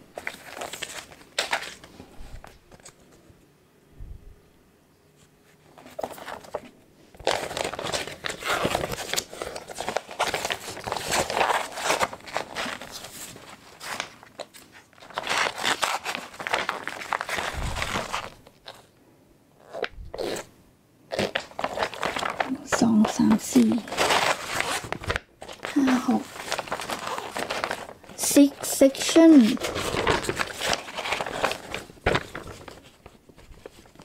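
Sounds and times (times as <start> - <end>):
paper and plastic packaging crinkling: 0.1 - 3.2, 5.6 - 18.9, 21.1 - 34.0.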